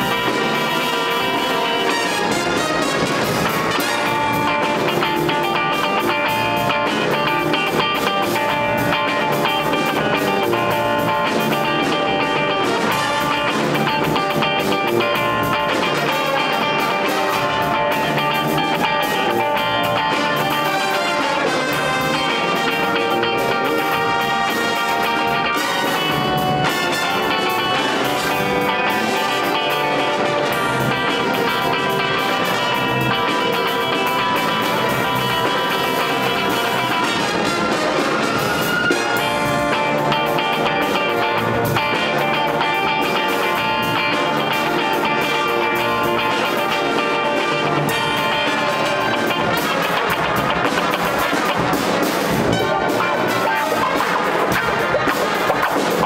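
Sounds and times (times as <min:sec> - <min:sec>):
electric guitar: 0:00.0 - 0:56.0
jazz band playing funk: 0:00.0 - 0:56.0.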